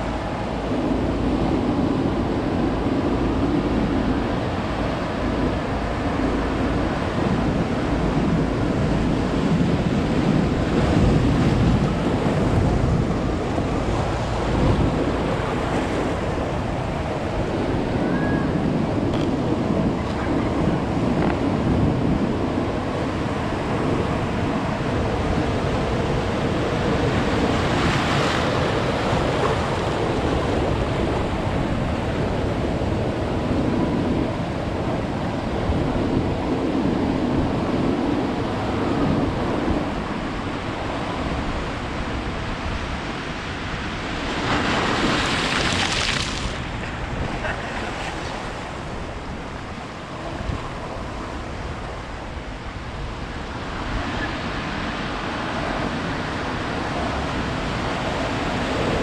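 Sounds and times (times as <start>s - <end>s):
waves breaking on beach: 0.0s - 59.0s
wind buffeting microphone: 0.0s - 59.0s.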